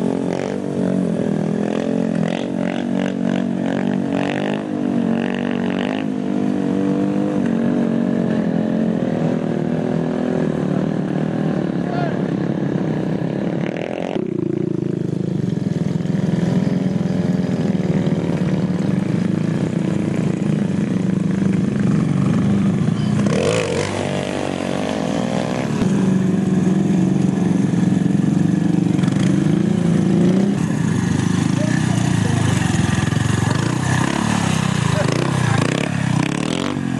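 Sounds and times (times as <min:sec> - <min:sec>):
pit bike engines running: 0:00.0 - 0:36.9.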